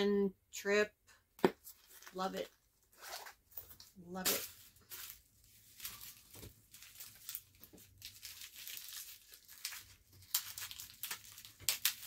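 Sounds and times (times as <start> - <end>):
packaging crinkling: 1.6 - 12.0.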